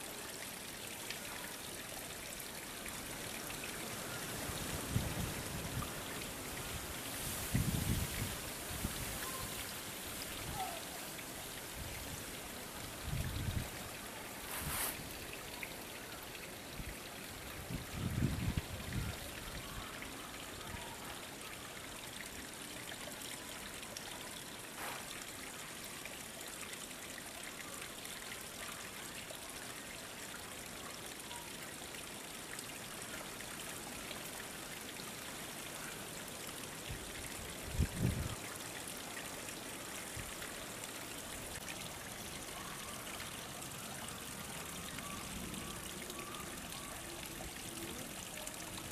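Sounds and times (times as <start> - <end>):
water trickling through channel: 0.0 - 48.9.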